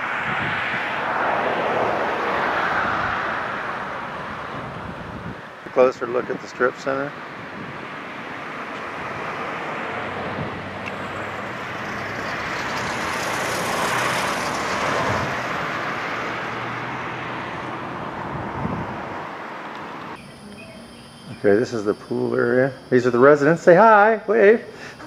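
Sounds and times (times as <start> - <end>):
cars passing: 0.0 - 25.0.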